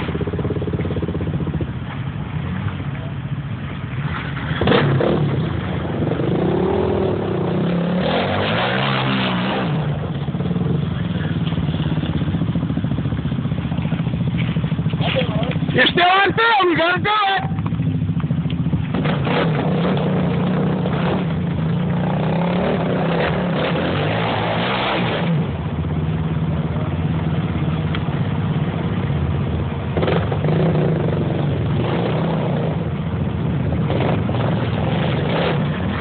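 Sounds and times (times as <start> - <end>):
quad bike engine revving: 4.0 - 16.2, 17.5 - 36.0.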